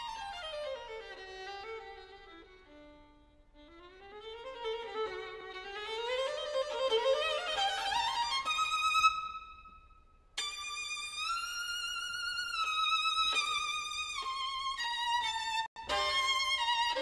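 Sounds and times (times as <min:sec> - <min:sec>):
slow violin melody: 0:00.0 - 0:09.8, 0:10.4 - 0:17.0.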